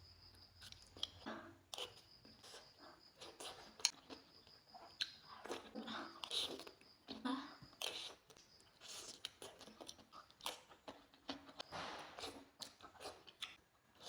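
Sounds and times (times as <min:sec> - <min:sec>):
food chewing: 0:00.6 - 0:14.0.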